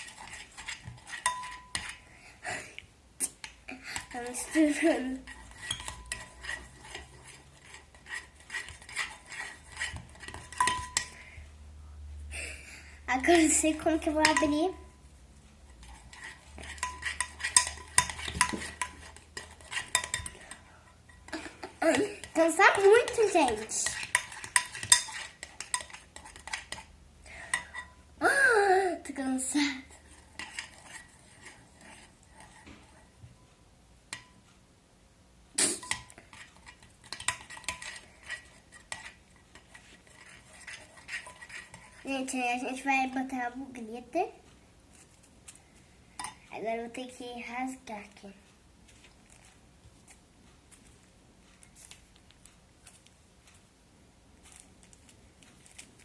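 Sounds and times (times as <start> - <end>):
utensil stirring sticky slime: 0.0 - 11.6, 12.4 - 33.4, 35.6 - 53.7, 54.3 - 56.0.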